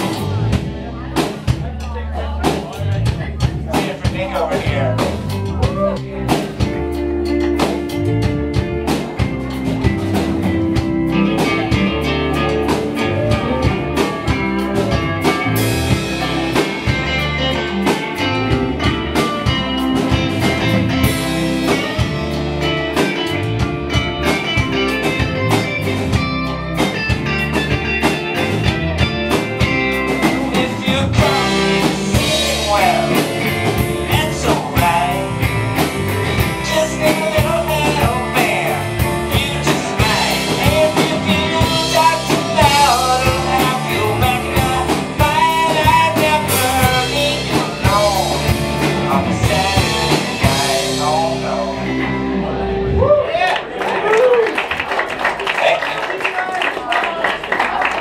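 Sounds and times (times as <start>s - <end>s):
live band playing: 0.0s - 58.0s.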